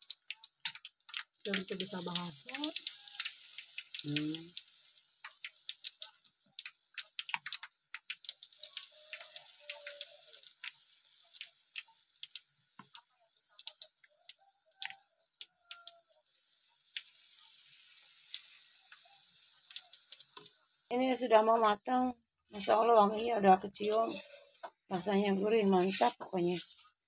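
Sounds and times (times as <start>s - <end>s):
batter sizzling and popping in oil: 0.0s - 21.8s, 22.4s - 27.0s.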